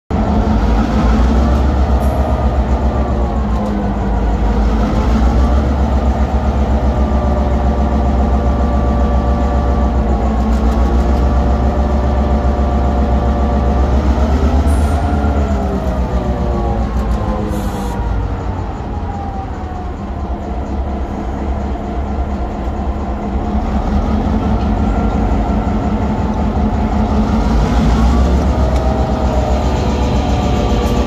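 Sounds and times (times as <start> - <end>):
high whining tone: 0.1 - 31.0
locomotive engine throbbing: 0.1 - 31.0.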